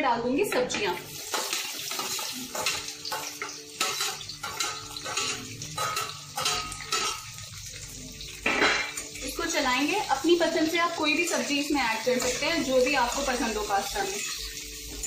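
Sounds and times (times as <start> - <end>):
vegetables sizzling in hot oil: 0.8 - 15.0.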